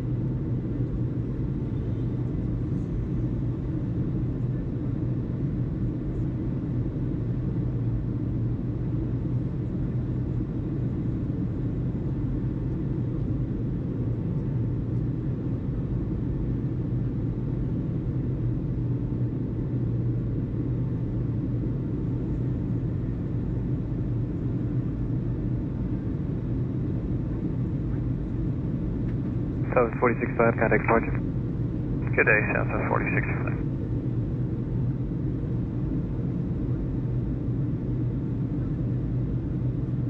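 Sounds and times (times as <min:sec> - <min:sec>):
constant low hum: 0:00.0 - 0:40.0.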